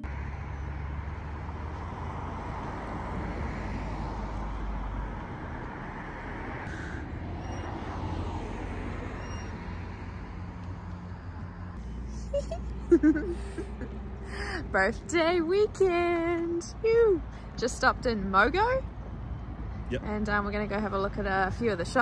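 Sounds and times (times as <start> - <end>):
road traffic rushing: 0.0 - 22.0.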